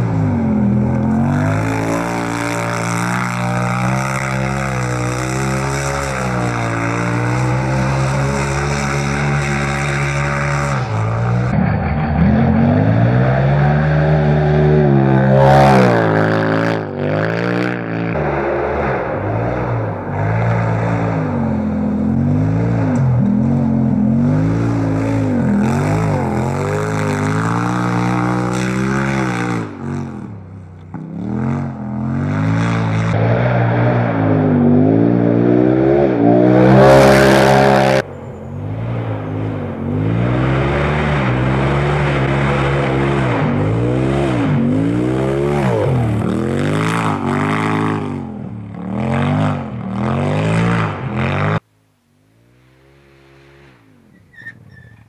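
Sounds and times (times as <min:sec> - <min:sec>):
engine revving hard: 0:00.0 - 0:30.4, 0:31.1 - 0:38.0, 0:38.7 - 0:51.6.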